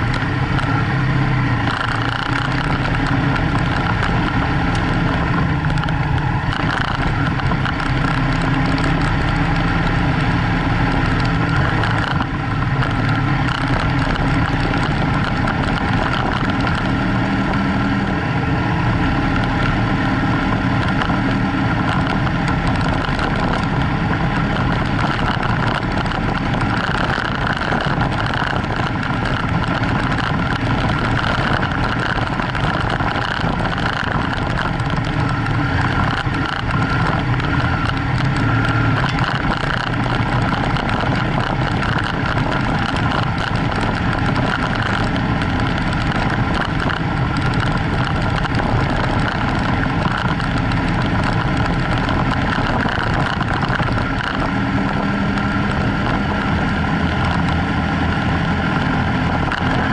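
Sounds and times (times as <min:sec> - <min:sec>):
motorcycle engine running: 0:00.0 - 0:59.9
tyres on gravel track: 0:00.0 - 0:59.9
wind noise: 0:00.0 - 0:59.9.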